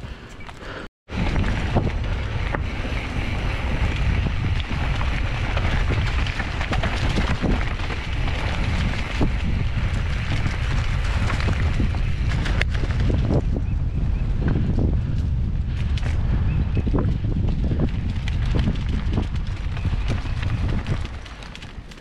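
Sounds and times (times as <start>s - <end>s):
wind buffeting microphone: 0.0s - 22.0s
bike knocks and rattles: 1.1s - 22.0s.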